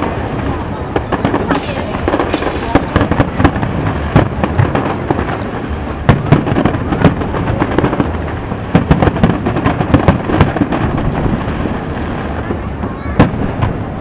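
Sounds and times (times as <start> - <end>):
continuous rumble: 0.0 - 14.0
fireworks booming and crackling: 0.0 - 14.0.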